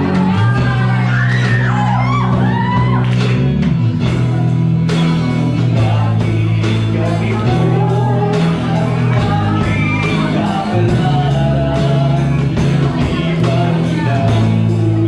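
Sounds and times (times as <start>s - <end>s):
person singing: 0.0s - 3.2s, 4.0s - 15.0s
live band playing: 0.0s - 15.0s.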